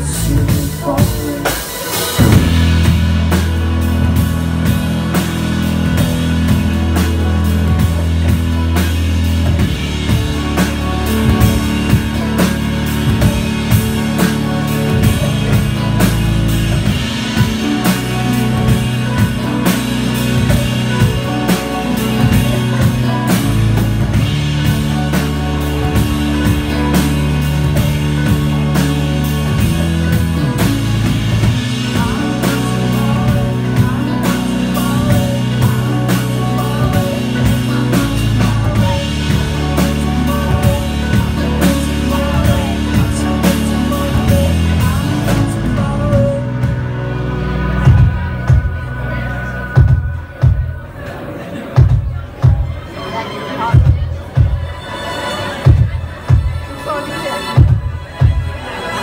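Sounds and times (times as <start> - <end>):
drum kit beat: 0.0 - 53.0, 53.6 - 59.0
bass: 0.0 - 59.0
guitar: 0.0 - 59.0
keyboard chords: 0.0 - 59.0.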